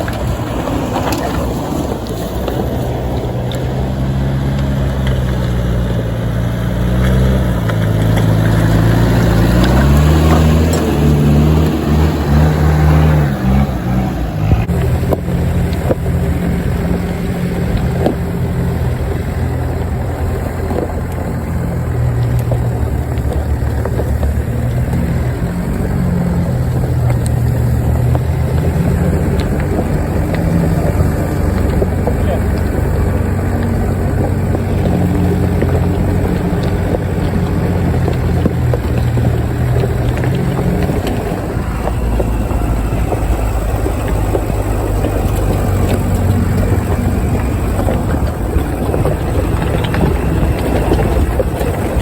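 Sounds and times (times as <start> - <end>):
off-road vehicle engine: 0.0 - 52.0.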